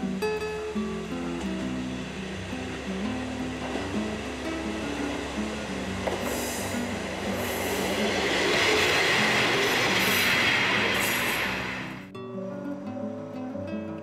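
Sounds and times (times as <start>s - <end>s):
soft background music: 0.0s - 9.5s, 12.1s - 14.0s
diesel train on rails: 0.0s - 12.2s.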